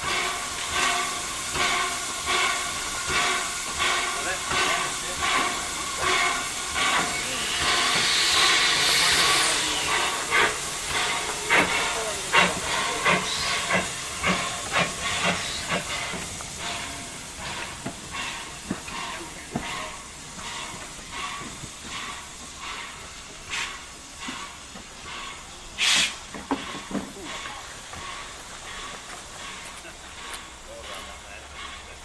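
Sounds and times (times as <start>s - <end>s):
sharp locomotive exhaust beats: 0.0s - 32.0s
steam hissing: 0.0s - 32.0s.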